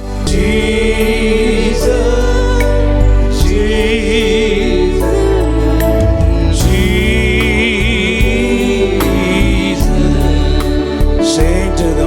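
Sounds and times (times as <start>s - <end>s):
worship band music: 0.0s - 12.0s.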